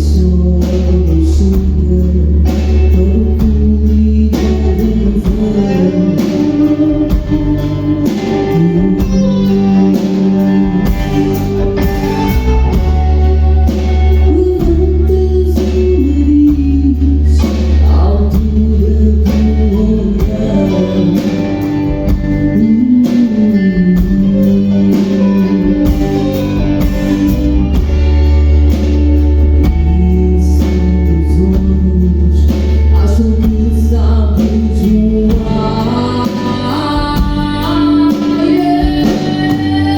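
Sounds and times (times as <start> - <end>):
bass guitar: 0.0 - 39.9
drums: 0.0 - 39.9
electric guitar: 0.0 - 39.9
person singing: 0.0 - 39.9.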